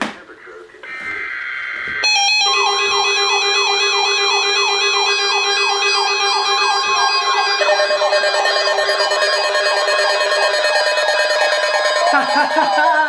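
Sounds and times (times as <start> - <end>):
data tones: 0.8 - 13.0
steady electronic tones: 0.8 - 13.0
siren-like sweeping alarm tone: 0.9 - 13.0.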